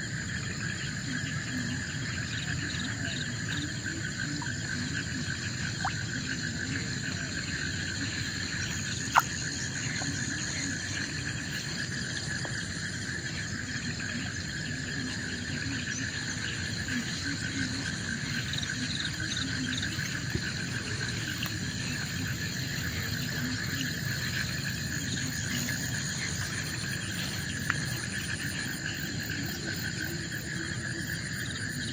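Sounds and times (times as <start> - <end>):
forest insects trilling: 0.0 - 31.9.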